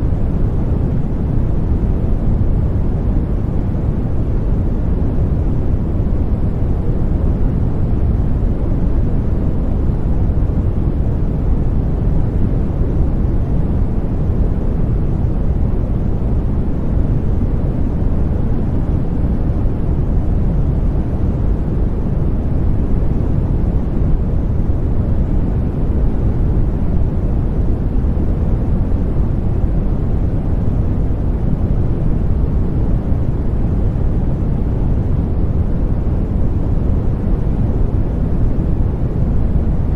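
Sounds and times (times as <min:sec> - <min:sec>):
deep white noise: 0:00.0 - 0:39.9.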